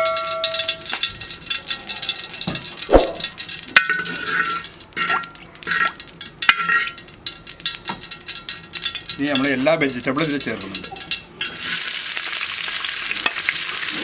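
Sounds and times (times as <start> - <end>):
oil crackling in a pan: 0.0 - 14.0.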